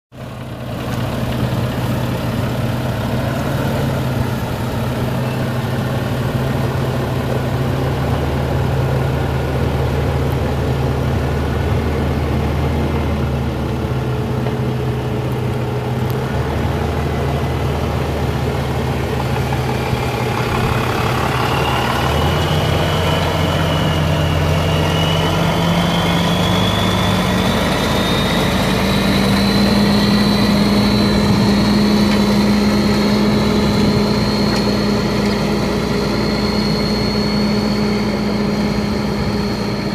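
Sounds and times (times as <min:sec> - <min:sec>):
high engine whine: 0:00.1 - 0:39.9
diesel truck engine idling: 0:00.2 - 0:39.9.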